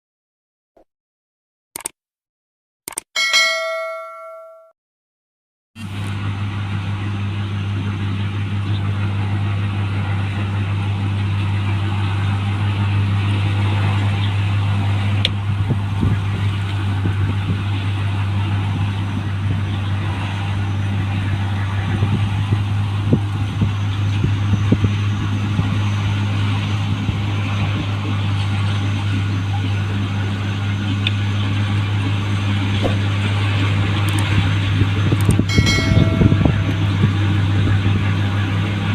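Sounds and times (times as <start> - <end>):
combine harvester engine drone: 5.8 - 38.9.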